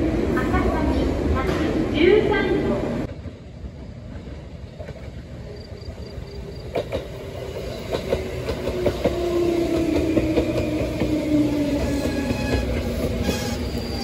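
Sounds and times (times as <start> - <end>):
electric train passing: 0.0 - 14.0.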